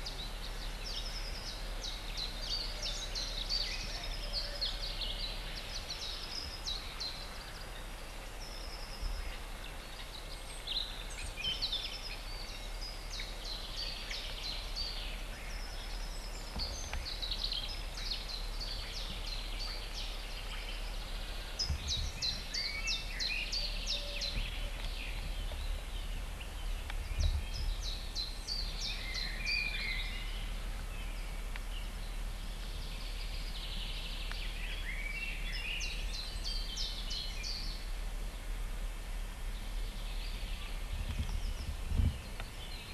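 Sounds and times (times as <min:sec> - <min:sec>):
low steady hum: 0:00.0 - 0:42.9
songbirds singing: 0:00.0 - 0:42.9.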